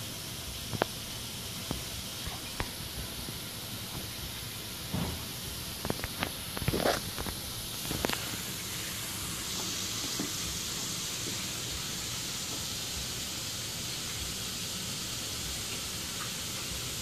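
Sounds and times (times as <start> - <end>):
butter sizzling in a frying pan: 0.1 - 17.0.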